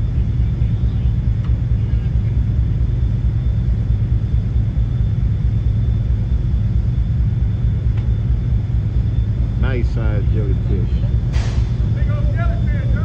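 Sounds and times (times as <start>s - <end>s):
loud low rumble: 0.0s - 13.0s
thin high whine: 0.0s - 13.0s.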